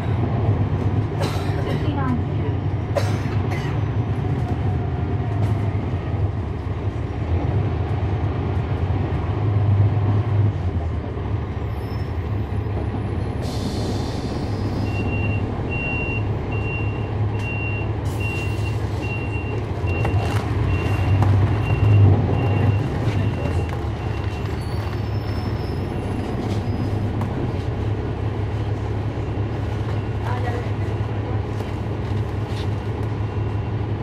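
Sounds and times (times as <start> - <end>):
bus diesel engine humming: 0.0 - 34.0.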